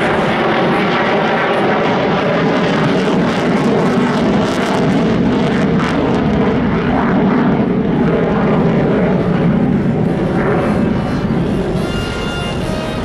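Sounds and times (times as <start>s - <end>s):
jet engine roaring overhead: 0.0s - 13.0s.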